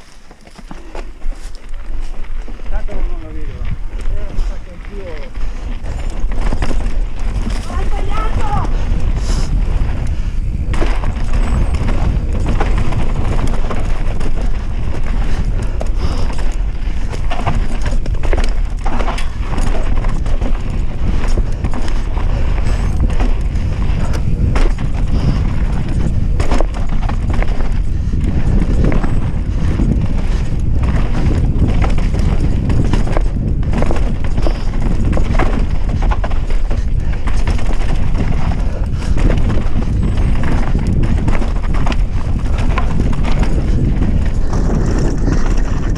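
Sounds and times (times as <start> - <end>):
mountain bike rattling over bumps: 0.0 - 45.9
tyre noise on dirt: 0.0 - 45.9
wind buffeting on microphone: 0.7 - 45.9.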